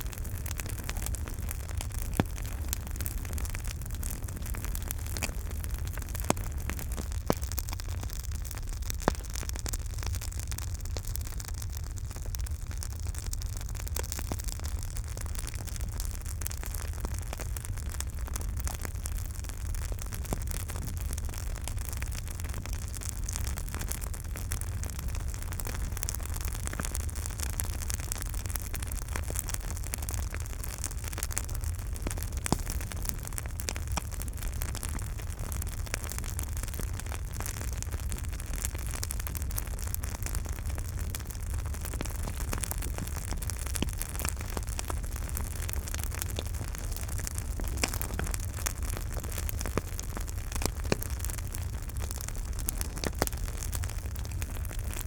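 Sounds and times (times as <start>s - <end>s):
campfire rumble and hiss: 0.0s - 55.0s
fire crackling and popping: 0.0s - 55.0s.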